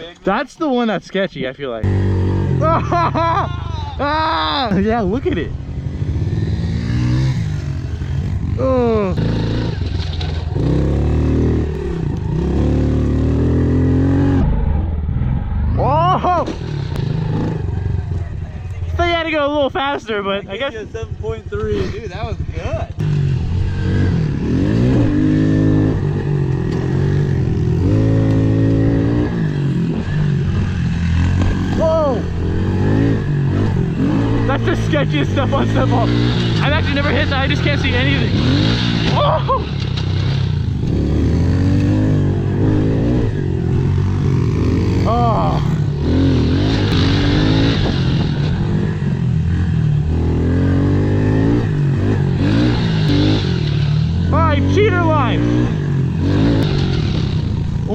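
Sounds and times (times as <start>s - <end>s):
motorbike engine revving: 1.8s - 57.9s.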